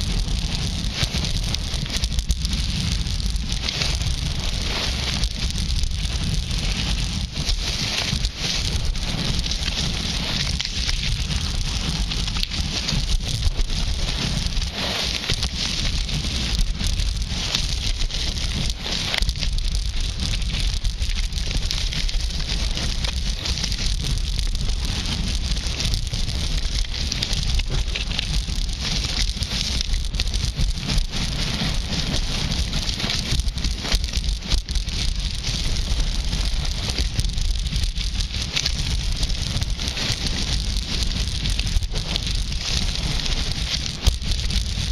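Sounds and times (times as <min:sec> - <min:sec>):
skis scraping on hard snow: 0:00.0 - 0:44.9
wind rumble on microphone: 0:00.0 - 0:44.9.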